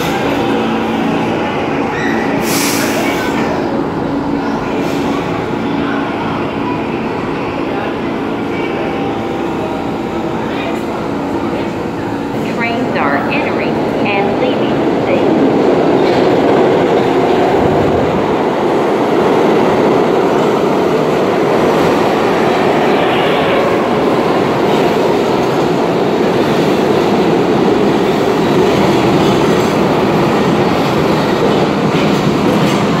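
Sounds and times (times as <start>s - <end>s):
subway train wheels clattering: 0.0s - 33.0s.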